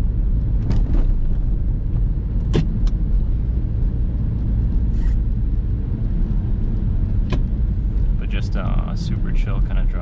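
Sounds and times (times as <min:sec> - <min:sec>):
engine and tyres rumbling: 0:00.0 - 0:10.0.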